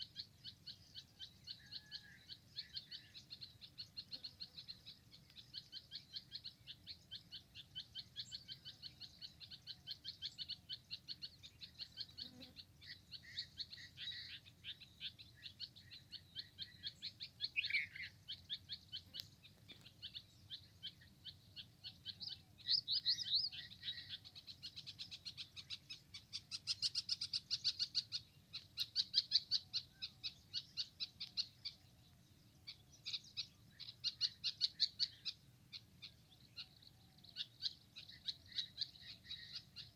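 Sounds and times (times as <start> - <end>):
lower bird calls: 0.0 - 39.9
songbirds chirping: 0.0 - 39.9.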